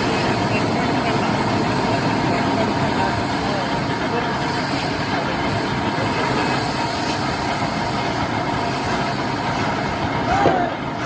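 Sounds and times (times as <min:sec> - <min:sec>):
heavy machinery running: 0:00.0 - 0:11.0.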